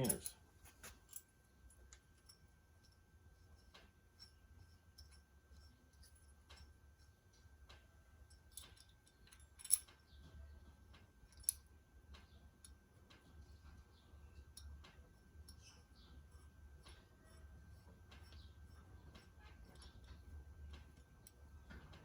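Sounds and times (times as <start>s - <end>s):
small metal clicks and ticks: 0.0s - 22.0s.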